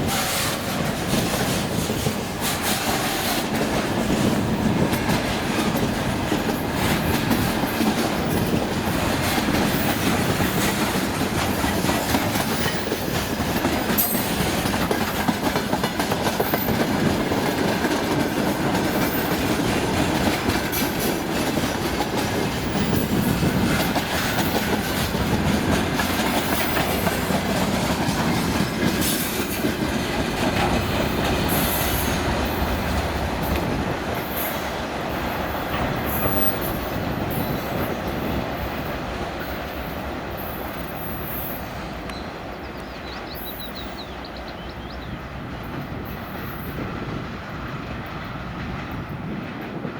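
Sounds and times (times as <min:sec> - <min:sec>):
train wheels clattering over joints: 0:00.0 - 0:49.9.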